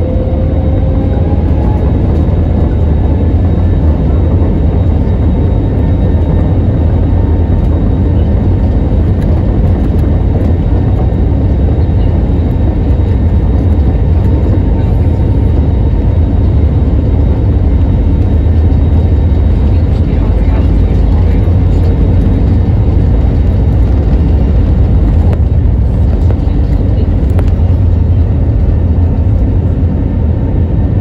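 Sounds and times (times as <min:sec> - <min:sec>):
jet engine low rumble: 0:00.0 - 0:31.0.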